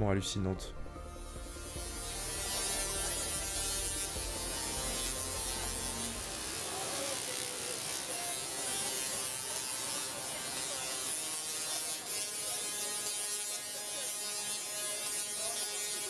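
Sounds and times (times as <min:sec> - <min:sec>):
tesla coil electric buzz music: 0:00.0 - 0:16.0
faint voices: 0:02.6 - 0:16.0.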